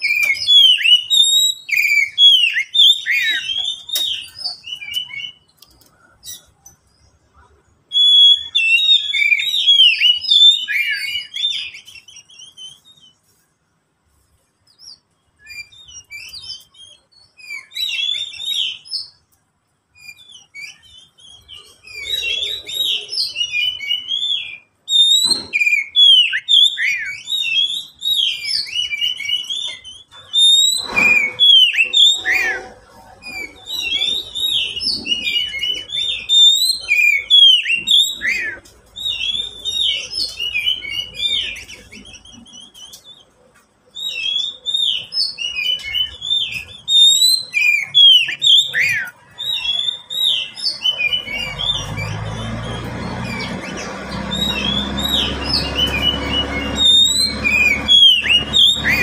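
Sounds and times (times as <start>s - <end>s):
bird singing whistled notes: 0.0s - 13.3s, 14.7s - 19.3s, 19.9s - 59.0s.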